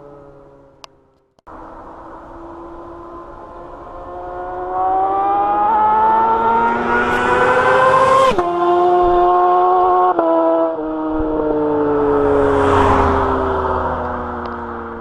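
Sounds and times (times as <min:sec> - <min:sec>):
motorcycle accelerating hard: 0:01.5 - 0:15.0.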